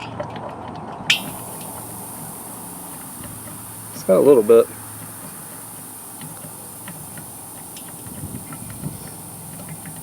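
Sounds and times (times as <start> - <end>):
air hissing from valve: 1.1 - 10.0
faint ticks: 1.1 - 10.0.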